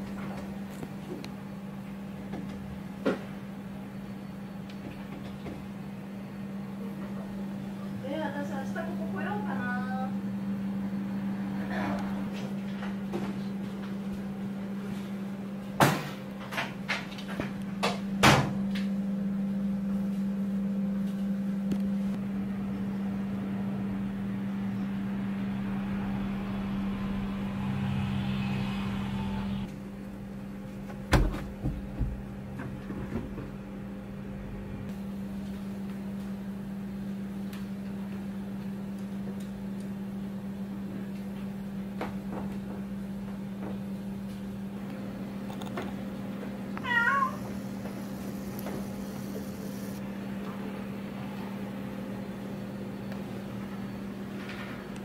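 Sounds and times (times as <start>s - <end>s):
low hum of room equipment: 0.0s - 55.0s.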